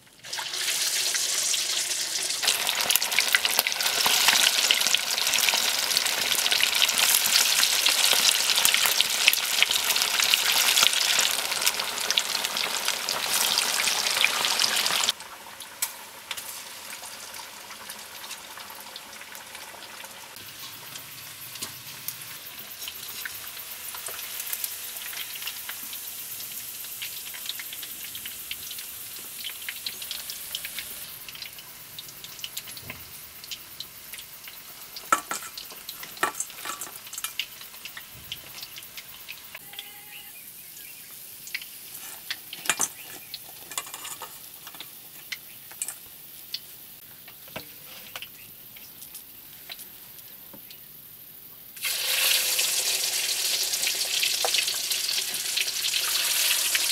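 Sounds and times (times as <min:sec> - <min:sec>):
chicken deep-frying in oil: 0:00.0 - 0:56.9.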